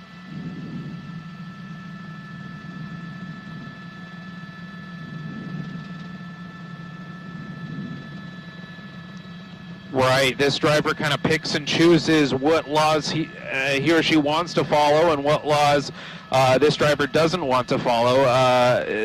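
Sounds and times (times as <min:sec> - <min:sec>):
helicopter engine drone: 0:00.0 - 0:19.0
high turbine whine: 0:00.0 - 0:19.0.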